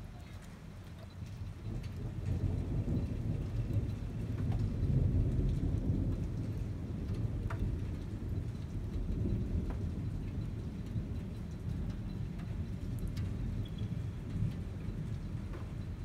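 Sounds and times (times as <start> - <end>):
rain: 0.0 - 16.0
raindrops ticking: 0.0 - 16.0
rolling thunder rumbling: 1.6 - 16.0.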